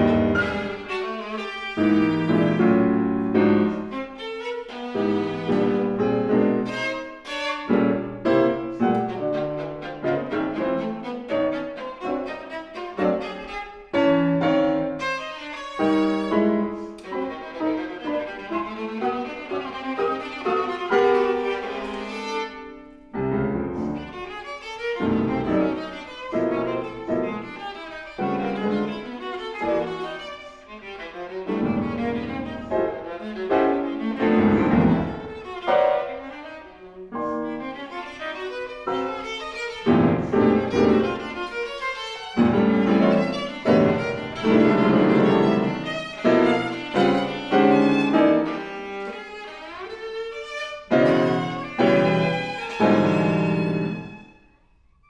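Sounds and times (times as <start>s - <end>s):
piano accompaniment: 0.0s - 54.5s
viola playing classical piece: 0.0s - 55.0s.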